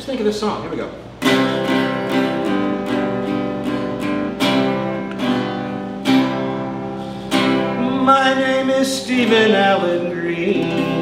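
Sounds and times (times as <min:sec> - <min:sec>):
acoustic guitar strumming chords: 0:01.1 - 0:11.0.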